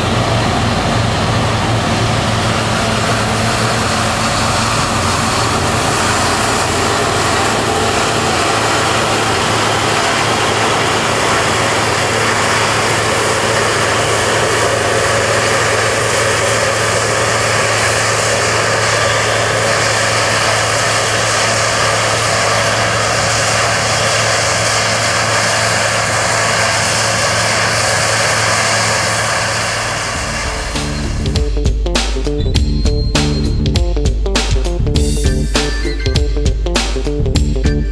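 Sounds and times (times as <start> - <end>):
threshing machinery clatter: 0.0 - 31.7
combine harvester engine hum: 0.0 - 37.9.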